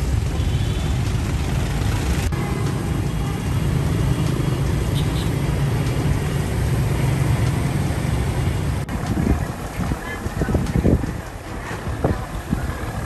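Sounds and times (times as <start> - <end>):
traffic noise: 0.0 - 13.0
vehicle engine rumbling: 0.0 - 13.0.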